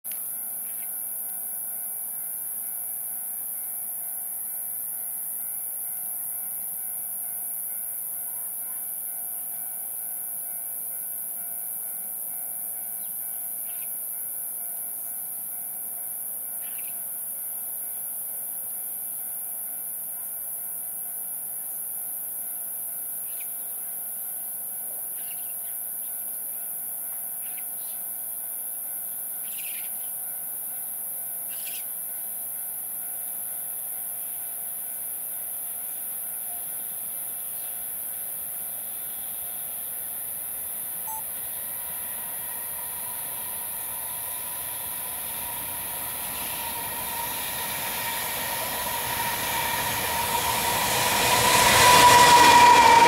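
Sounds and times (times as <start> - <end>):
high-pitched hiss: 0.1 - 53.0.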